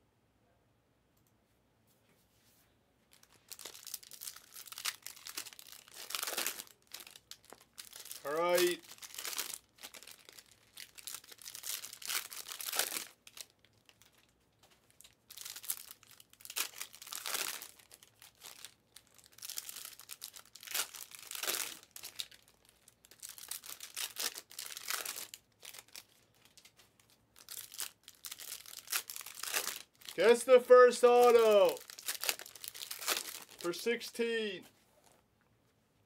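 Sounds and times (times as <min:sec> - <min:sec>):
wrappers tearing and crinkling: 0:03.1 - 0:33.8.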